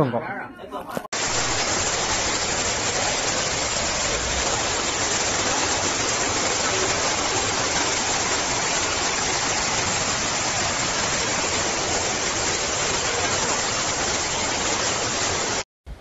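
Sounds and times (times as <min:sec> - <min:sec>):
floodwater rushing down stairs: 0:01.2 - 0:15.6.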